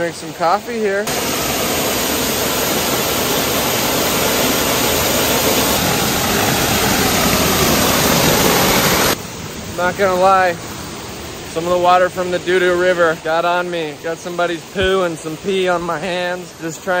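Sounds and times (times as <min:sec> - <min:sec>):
waterfall rushing: 0:00.1 - 0:17.0.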